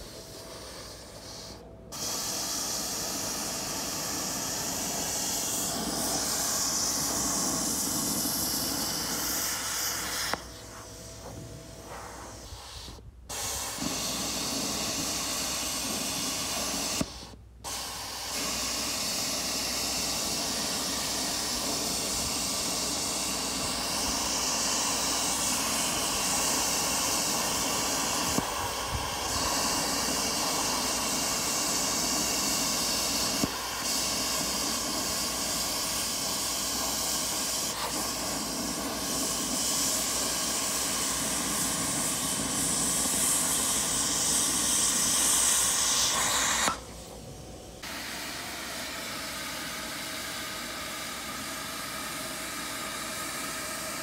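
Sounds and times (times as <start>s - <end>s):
plasma cutter hissing: 0.0s - 54.0s.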